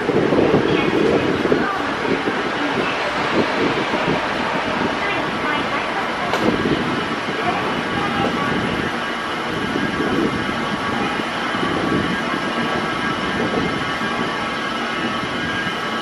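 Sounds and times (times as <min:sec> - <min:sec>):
escalator mechanical rumble: 0:00.0 - 0:16.0.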